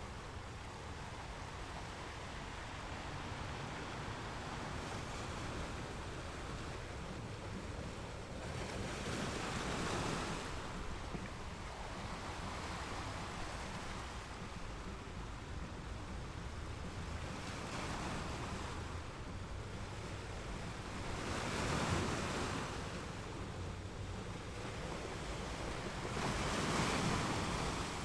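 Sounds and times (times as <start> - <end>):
ocean waves washing on shore: 0.0 - 28.0.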